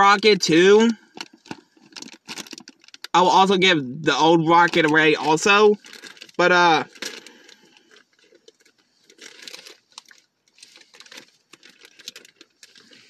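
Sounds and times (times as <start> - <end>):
plastic bag crinkling: 0.9 - 3.2, 4.5 - 13.0.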